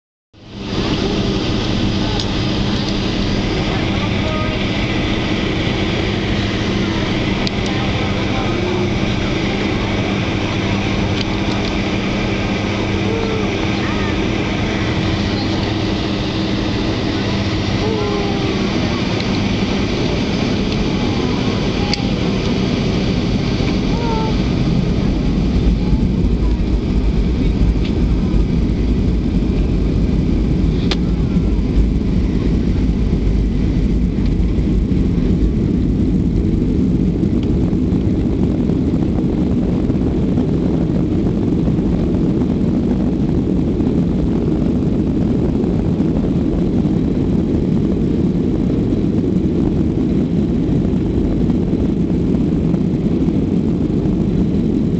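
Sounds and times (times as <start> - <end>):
jet engine cabin rumble: 0.4 - 54.9.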